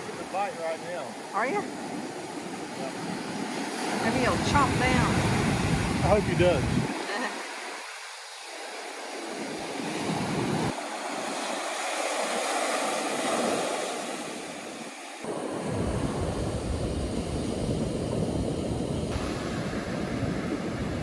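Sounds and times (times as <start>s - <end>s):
ocean surf washing up beach: 0.0s - 21.0s
wind rumbling on microphone: 0.0s - 21.0s.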